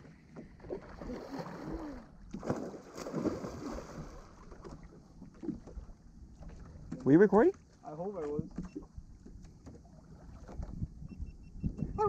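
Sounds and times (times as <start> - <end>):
light wind: 0.0 - 12.0
water lapping against boat hull: 0.0 - 12.0.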